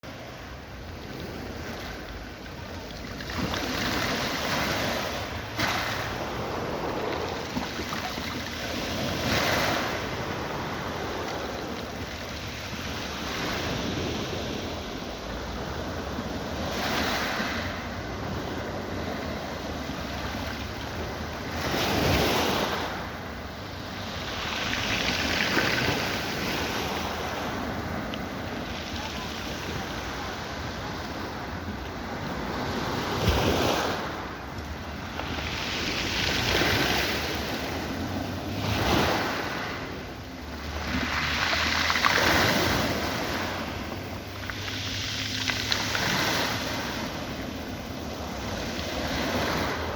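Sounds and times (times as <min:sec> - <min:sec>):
waves breaking on shore: 0:00.0 - 0:49.9.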